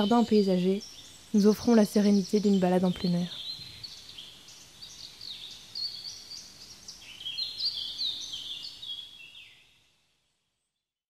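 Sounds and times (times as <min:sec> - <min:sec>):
songbirds chirping and singing: 0:00.0 - 0:09.8.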